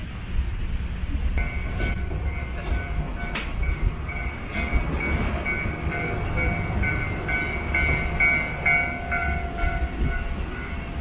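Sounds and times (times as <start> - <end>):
train rumbling: 0.0 - 11.0
bell dinging: 1.4 - 11.0.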